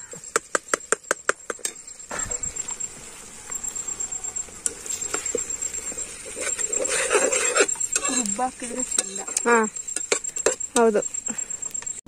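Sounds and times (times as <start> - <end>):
high insect trill: 0.0 - 12.0.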